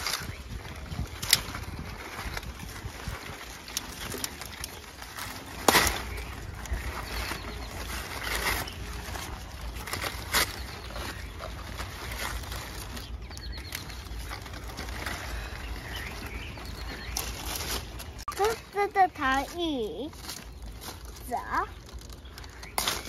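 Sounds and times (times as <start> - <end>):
leaves and paper bags rustling: 0.0 - 23.0.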